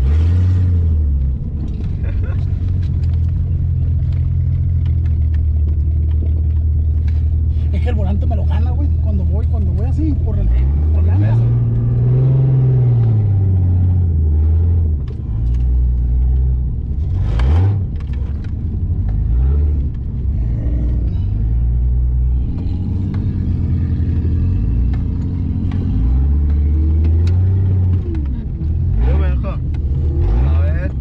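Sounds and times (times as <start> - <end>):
off-road vehicle engine revving: 0.0 - 31.0.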